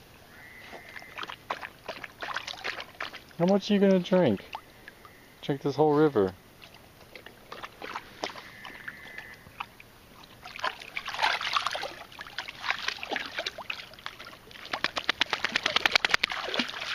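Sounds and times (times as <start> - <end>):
dog lapping water: 0.7 - 4.6, 6.6 - 16.9.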